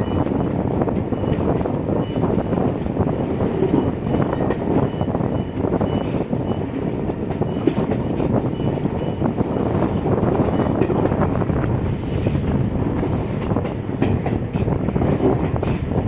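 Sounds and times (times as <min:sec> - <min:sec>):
train rumbling on rails: 0:00.0 - 0:16.0
wheels rattling and clicking: 0:00.0 - 0:16.0.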